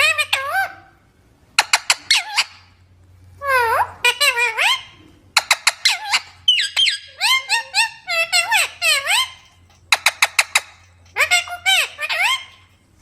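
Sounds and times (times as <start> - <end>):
parrot calling: 0.0 - 1.0, 1.6 - 2.8, 3.4 - 13.0.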